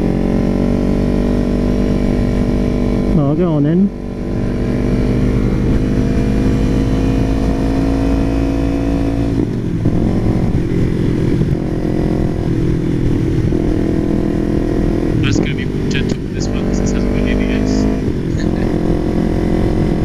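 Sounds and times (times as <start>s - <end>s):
wind rumble on microphone: 0.0s - 16.6s, 17.9s - 20.0s.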